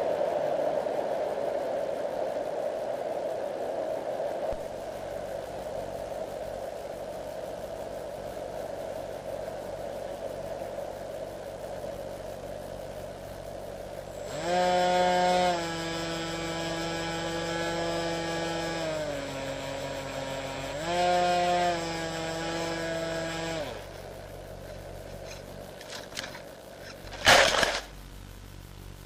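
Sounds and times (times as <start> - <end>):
radio static hiss: 0.0 - 20.8, 22.4 - 29.0
electric motor and propeller whine: 0.0 - 29.0.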